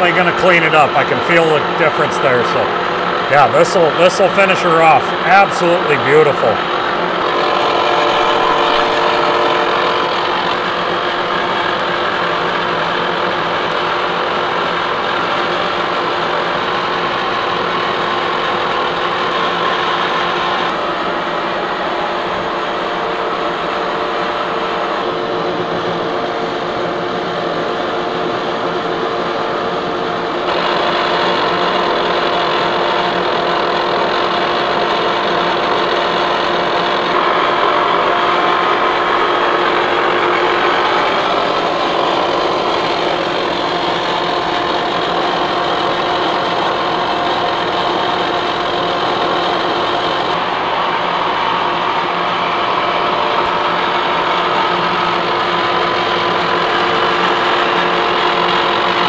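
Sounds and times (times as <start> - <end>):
milling machine whirring: 0.0 - 59.0.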